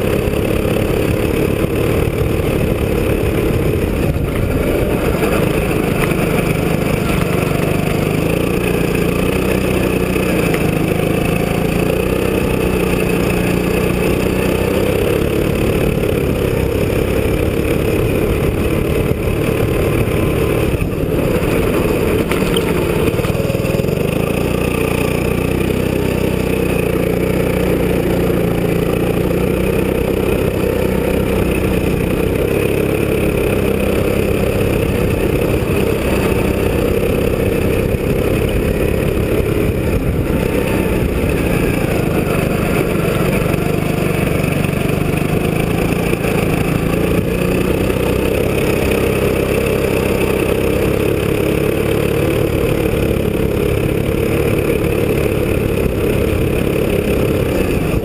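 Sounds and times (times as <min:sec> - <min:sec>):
go-kart engine running: 0:00.0 - 0:58.0.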